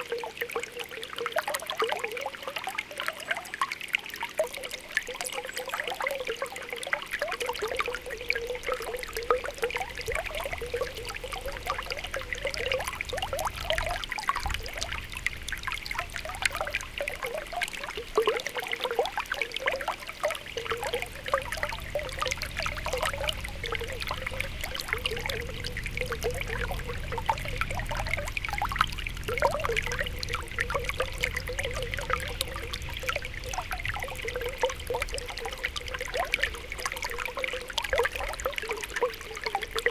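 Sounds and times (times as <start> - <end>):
spring water bubbling and gurgling: 0.0 - 39.9.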